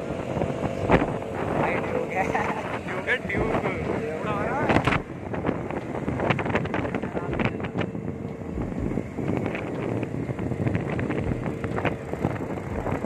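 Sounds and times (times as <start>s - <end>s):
motorcycle engine: 0.0s - 13.0s
road noise: 0.0s - 13.0s
wind rushing over microphone: 0.0s - 13.0s.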